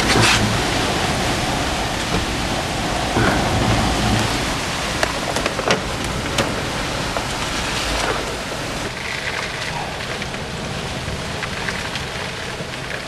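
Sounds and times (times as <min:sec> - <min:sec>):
rain heard inside vehicle: 0:00.0 - 0:13.0.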